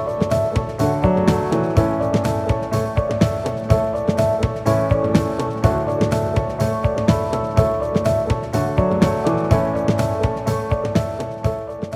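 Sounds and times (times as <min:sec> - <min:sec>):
steady drum beat: 0:00.0 - 0:11.8.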